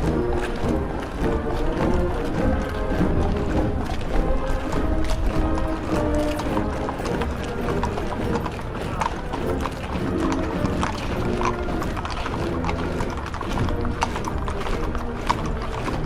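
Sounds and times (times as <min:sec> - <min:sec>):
horses' hooves clip-clopping on road: 0:00.0 - 0:16.0.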